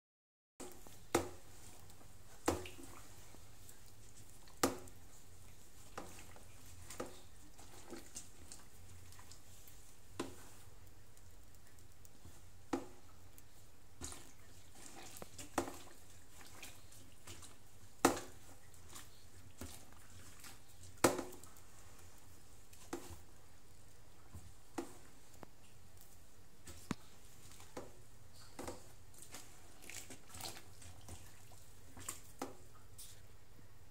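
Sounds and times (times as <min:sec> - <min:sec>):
wet sheet squelching in water: 0:00.6 - 0:33.2.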